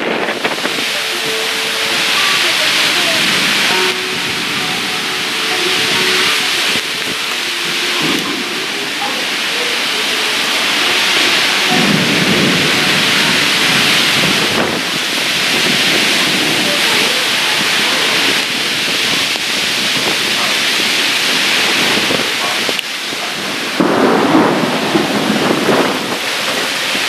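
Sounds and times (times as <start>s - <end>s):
heavy rain falling: 0.0s - 27.0s
thunder rumbling: 0.0s - 27.0s.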